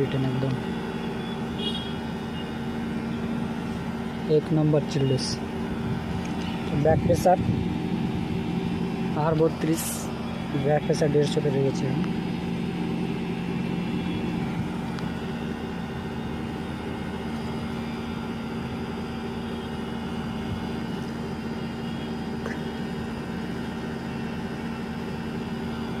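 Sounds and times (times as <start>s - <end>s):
air conditioner unit humming: 0.0s - 26.0s.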